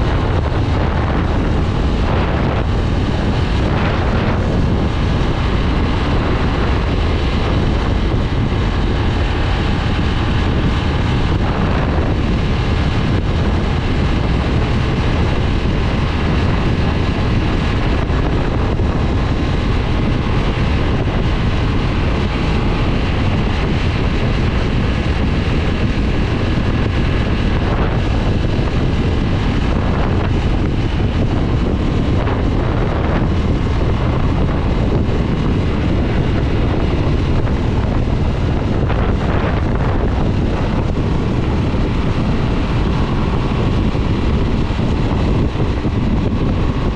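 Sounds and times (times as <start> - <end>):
motorcycle engine running: 0.0 - 46.9
wind buffeting microphone: 0.0 - 46.9.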